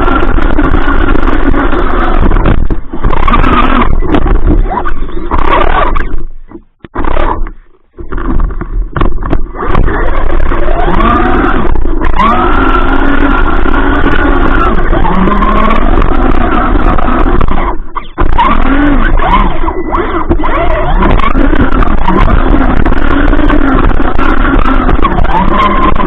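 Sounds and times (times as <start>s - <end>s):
rc car motor whining: 0.0s - 6.2s, 9.1s - 26.0s
rumble of car on snow: 0.0s - 6.2s, 6.9s - 26.0s.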